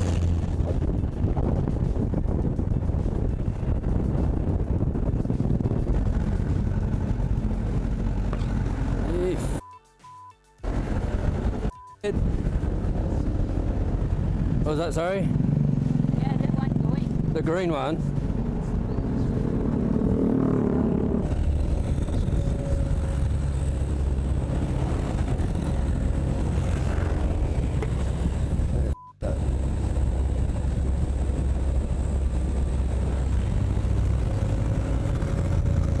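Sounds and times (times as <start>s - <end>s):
motorcycle engine rumble: 0.0s - 9.6s, 10.6s - 36.0s
road noise: 0.0s - 9.6s, 10.6s - 36.0s
wind on microphone: 0.0s - 9.6s, 10.6s - 14.7s, 18.0s - 36.0s.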